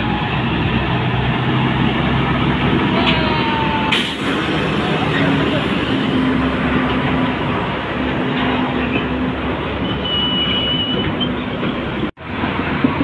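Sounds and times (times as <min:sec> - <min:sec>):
truck engine drone: 0:00.0 - 0:13.0
tyres rolling on wet road: 0:00.0 - 0:13.0.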